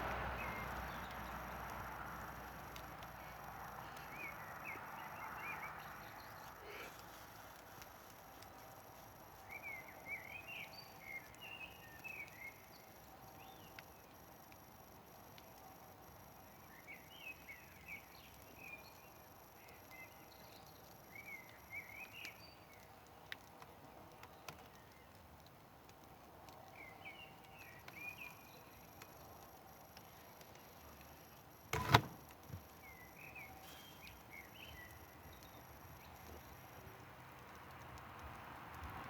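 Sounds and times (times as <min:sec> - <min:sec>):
songbird chirping: 0:00.0 - 0:25.2, 0:26.0 - 0:37.9
campfire crackles: 0:00.0 - 0:39.0.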